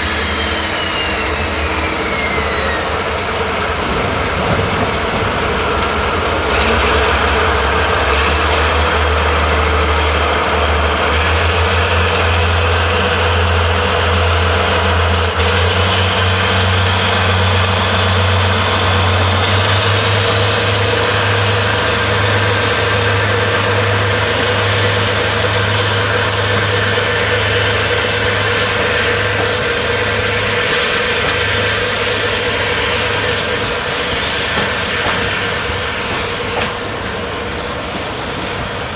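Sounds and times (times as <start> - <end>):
locomotive engine droning: 0.0 - 38.9.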